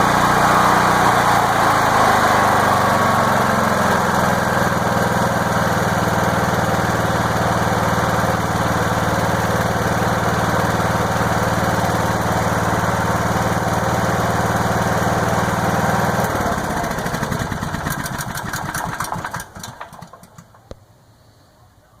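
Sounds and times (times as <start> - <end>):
generator engine running: 0.0 - 20.8.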